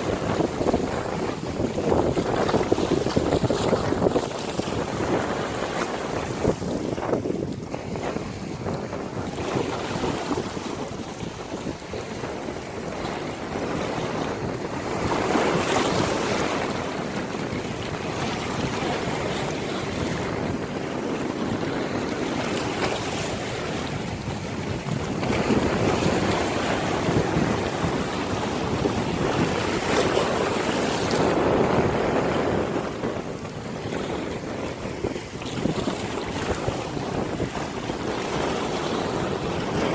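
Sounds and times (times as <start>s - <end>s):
sea waves breaking on beach: 0.0s - 39.9s
wind buffeting microphone: 0.0s - 39.9s.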